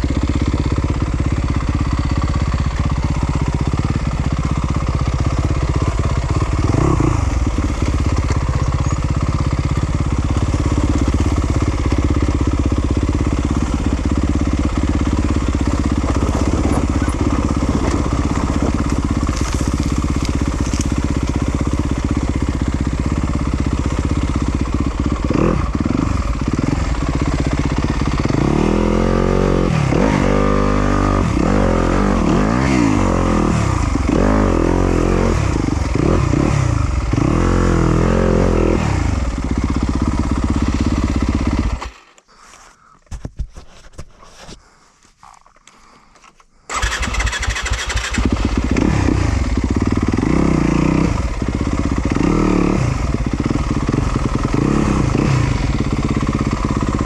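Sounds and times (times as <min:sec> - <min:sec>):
dirt bike engine revving: 0:00.0 - 0:42.2, 0:46.7 - 0:57.0.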